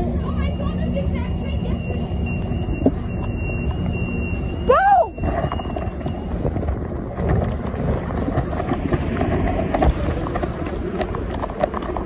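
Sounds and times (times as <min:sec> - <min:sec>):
low rumble: 0:00.0 - 0:12.0
running footsteps on pavement: 0:00.0 - 0:12.0.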